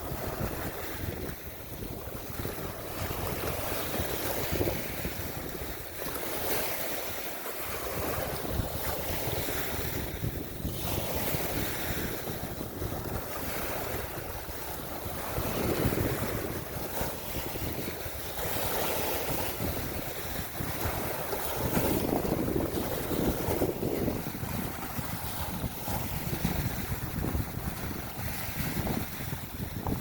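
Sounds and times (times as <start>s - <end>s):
waves washing in: 0.0s - 30.0s
wind rumbling on microphone: 0.0s - 30.0s.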